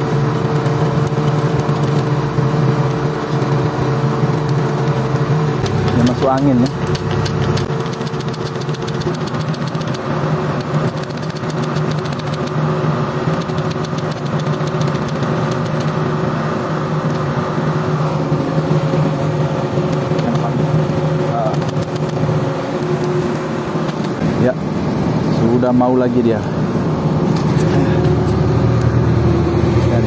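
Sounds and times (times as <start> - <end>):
diesel engine idling: 1.1 - 11.2, 13.2 - 30.0.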